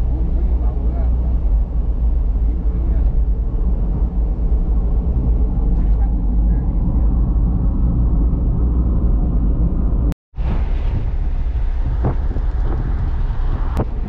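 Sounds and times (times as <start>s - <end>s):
van cabin engine and tyre rumble: 0.0s - 14.0s.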